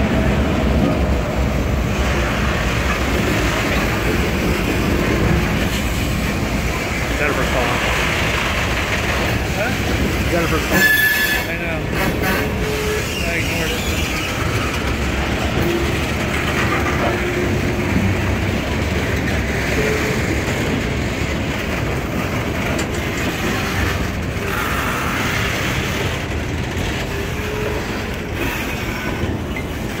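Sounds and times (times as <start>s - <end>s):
steel wheels running over rails: 0.0s - 30.0s.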